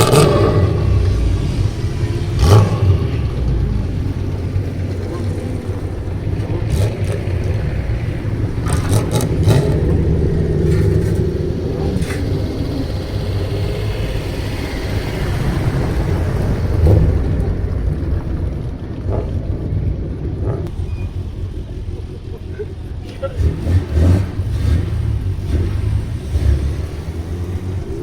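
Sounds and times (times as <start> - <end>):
car exhaust deep rumble: 0.0 - 28.0
exhaust cracks: 0.0 - 28.0.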